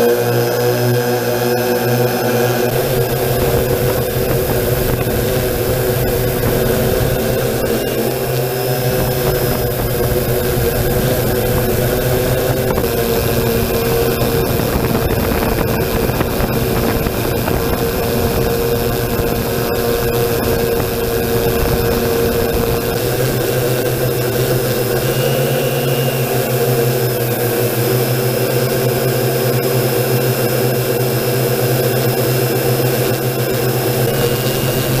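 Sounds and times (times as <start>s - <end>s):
drone buzzing hum: 0.0s - 35.0s.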